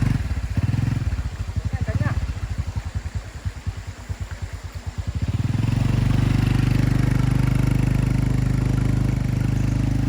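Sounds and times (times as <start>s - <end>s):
small engine chugging and revving: 0.0s - 10.0s.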